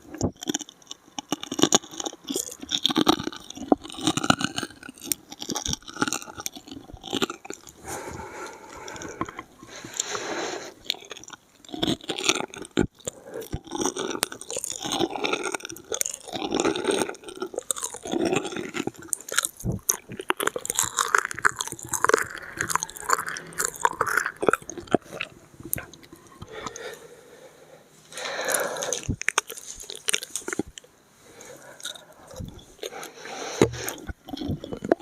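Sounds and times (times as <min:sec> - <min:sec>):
tongue and lip clicks: 0:00.0 - 0:27.0, 0:28.1 - 0:35.0
wet chewing and smacking: 0:00.0 - 0:27.1, 0:28.1 - 0:35.0.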